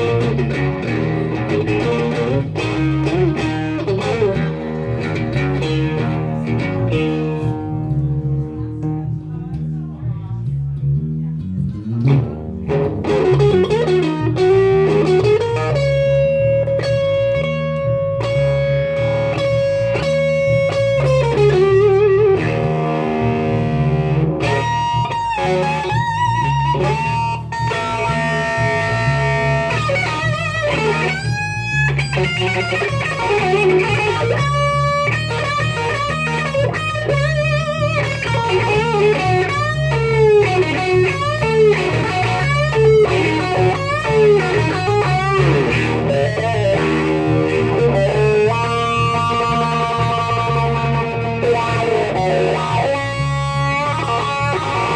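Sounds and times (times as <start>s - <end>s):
electric bass line: 0.0s - 54.9s
electric guitar solo: 0.0s - 54.9s.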